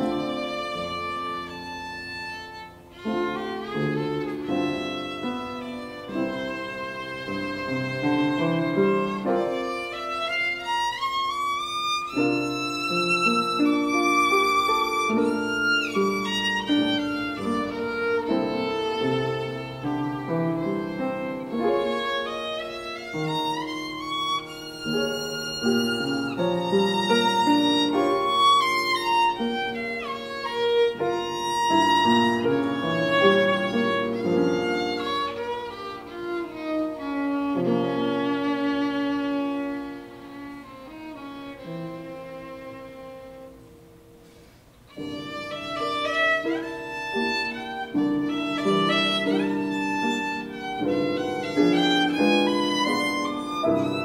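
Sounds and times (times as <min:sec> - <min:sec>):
piano chords: 0:00.0 - 0:54.0
violin melody: 0:00.0 - 0:54.0.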